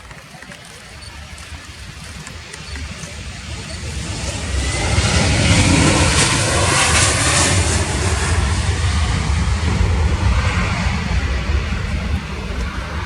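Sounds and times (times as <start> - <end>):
jet passing low: 0.0 - 13.0.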